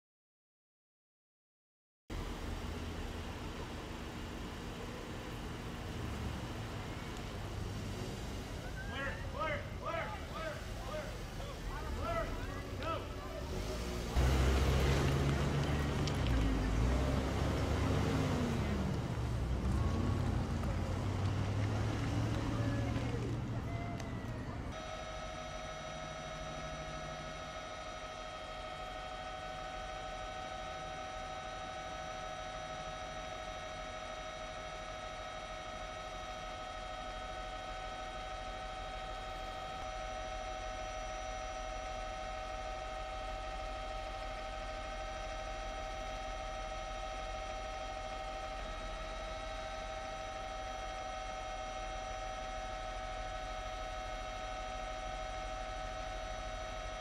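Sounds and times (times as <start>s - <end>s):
aircraft engine hum and whine: 2.2s - 57.0s.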